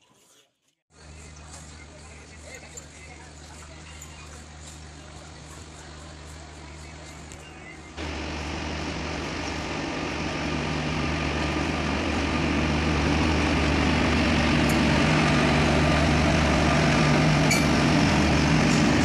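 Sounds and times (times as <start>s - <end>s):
train hum and rumble: 1.0s - 19.0s.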